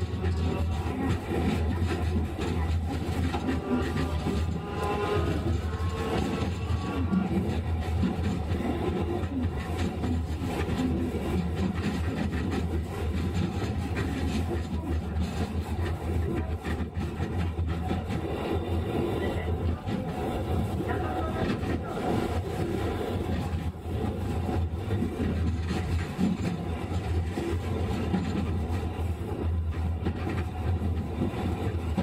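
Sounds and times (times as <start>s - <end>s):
tram low hum: 0.0s - 32.0s
wheels rumbling on rails: 0.0s - 32.0s.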